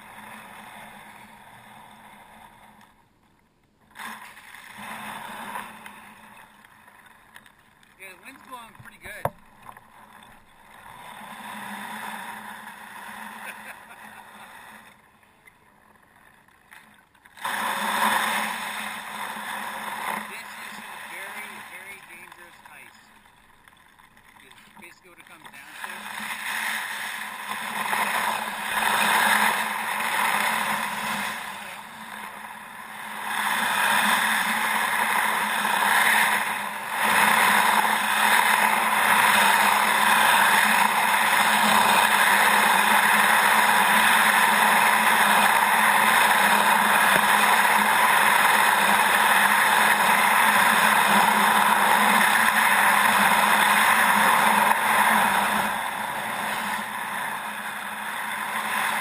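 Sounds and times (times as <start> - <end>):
kayak hull scraping through ice: 0.0 - 3.0, 3.8 - 59.0.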